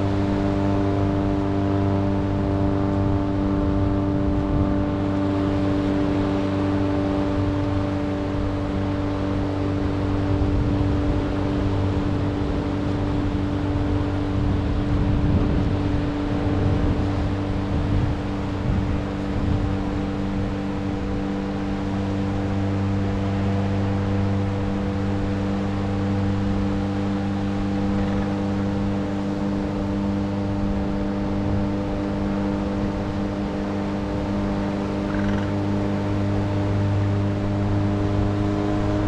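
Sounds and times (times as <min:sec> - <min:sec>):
machine low hum: 0:00.0 - 0:39.0.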